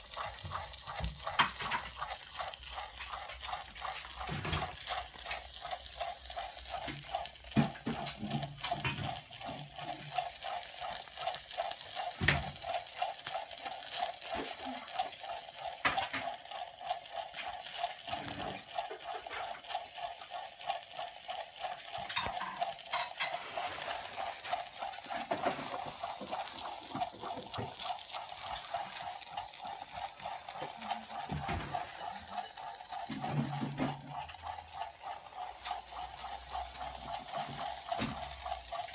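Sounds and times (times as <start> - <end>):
steam hissing: 0.0 - 38.9
toy steam engine chuffing: 0.0 - 38.9.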